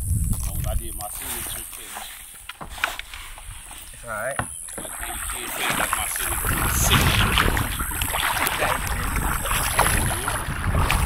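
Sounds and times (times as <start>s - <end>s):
water splashing against kayak hull: 0.0s - 11.0s
wind rumbling on microphone: 0.0s - 11.0s.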